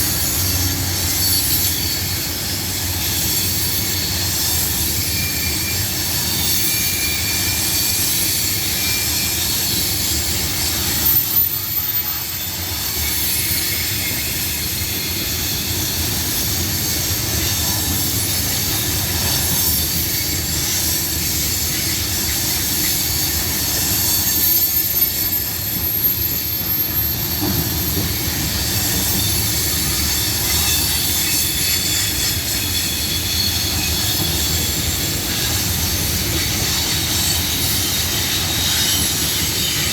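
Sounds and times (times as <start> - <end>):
high-pitched wheel squeal: 0.0 - 16.0, 18.4 - 39.9
train wheels rumbling on rail: 0.0 - 39.9.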